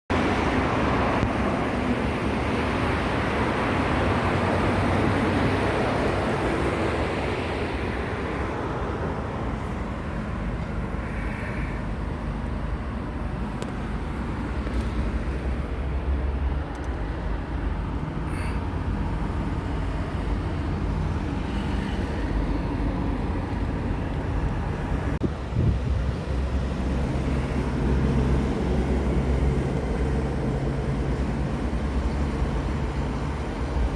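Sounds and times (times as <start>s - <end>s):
highway traffic rumble: 0.1s - 33.9s.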